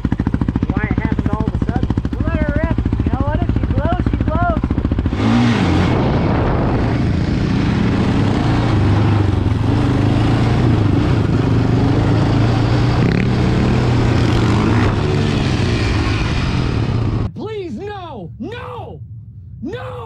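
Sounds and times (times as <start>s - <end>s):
quad engine revving: 0.0s - 17.3s.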